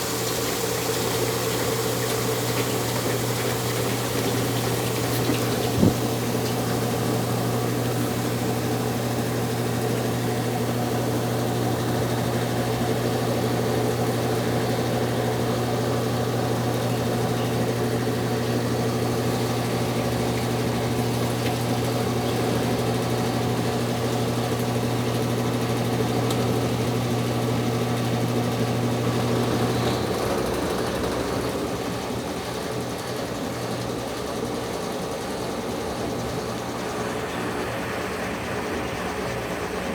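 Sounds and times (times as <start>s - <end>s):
washing machine draining and spinning: 0.0s - 39.9s
washing machine motor hum: 0.0s - 39.9s.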